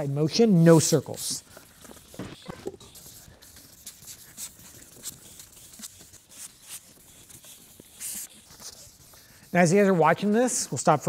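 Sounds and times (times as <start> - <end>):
sandpaper scuffing plastic: 0.6 - 10.7.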